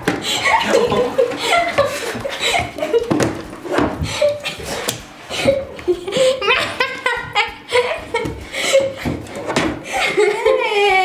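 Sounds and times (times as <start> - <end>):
young women laughing: 0.2 - 3.2, 4.0 - 9.2, 9.8 - 11.0.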